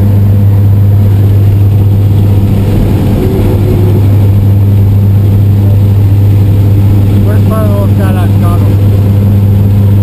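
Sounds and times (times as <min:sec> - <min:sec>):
airplane engine hum in cabin: 0:00.0 - 0:10.0
rushing air noise: 0:00.0 - 0:10.0.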